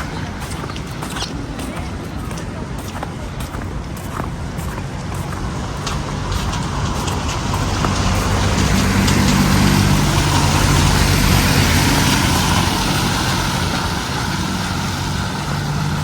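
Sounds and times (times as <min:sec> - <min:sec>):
street noise: 0:00.0 - 0:16.0
vehicle engine humming: 0:00.0 - 0:16.0.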